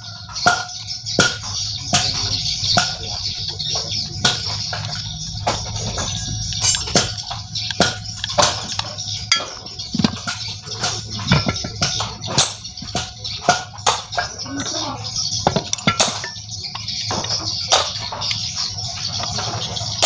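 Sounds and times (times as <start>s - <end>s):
metal parts and tools clinking: 0.0s - 20.0s.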